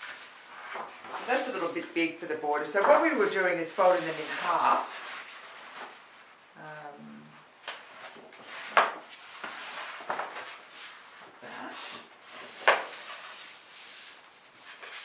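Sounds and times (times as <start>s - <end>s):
paper rustling: 0.0s - 6.3s, 7.6s - 15.0s.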